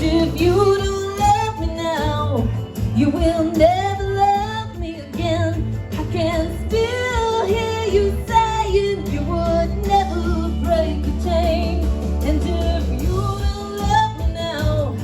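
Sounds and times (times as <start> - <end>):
live band music: 0.0 - 15.0
woman singing: 0.0 - 15.0.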